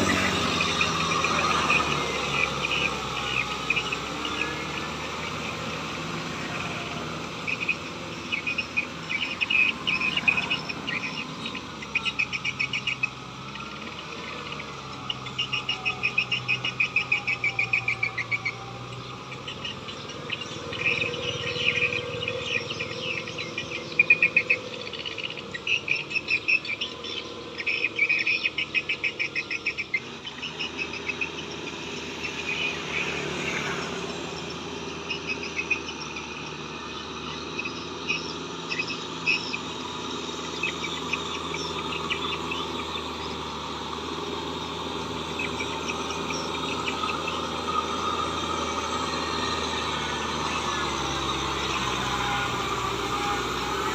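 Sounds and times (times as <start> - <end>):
frogs chirping: 0.0 - 53.9
insects chirping: 0.0 - 53.9
tractor diesel engine running: 0.0 - 53.9.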